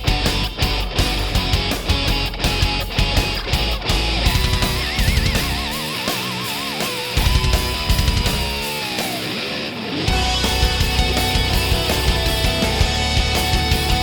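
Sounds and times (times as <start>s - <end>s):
rock music with distorted guitar: 0.0s - 14.0s.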